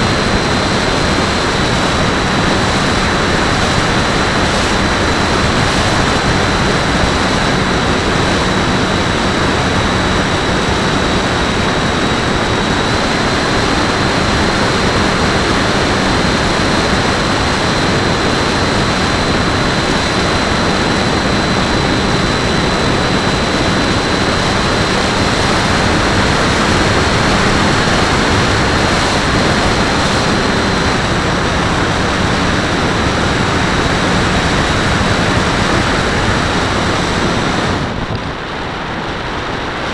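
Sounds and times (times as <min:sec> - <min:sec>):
electric motor and propeller whine: 0:00.0 - 0:39.9
wind rush: 0:00.0 - 0:39.9.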